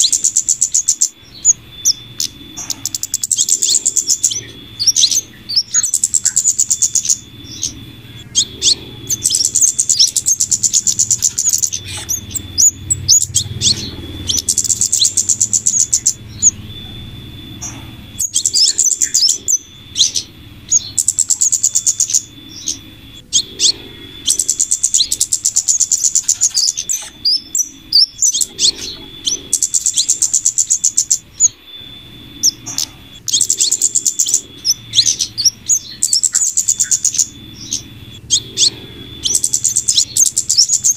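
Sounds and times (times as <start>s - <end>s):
high-pitched bird chatter: 0.0s - 40.9s
thin high tone: 0.0s - 40.9s.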